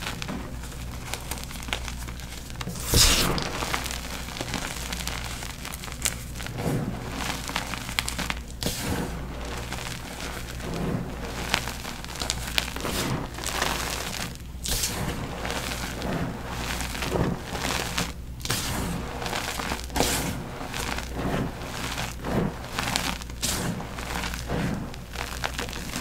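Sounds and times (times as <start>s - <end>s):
chalk crushing and crunching: 0.0s - 26.0s.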